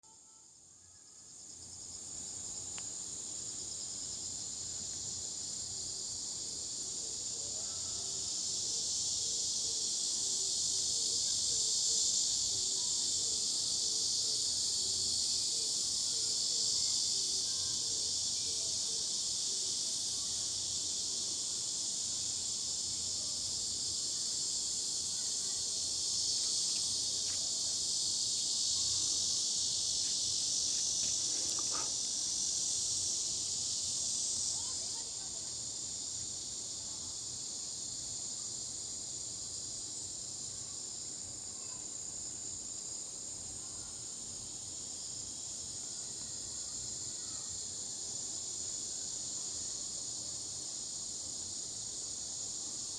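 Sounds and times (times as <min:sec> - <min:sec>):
insects buzzing: 0:00.1 - 0:52.9.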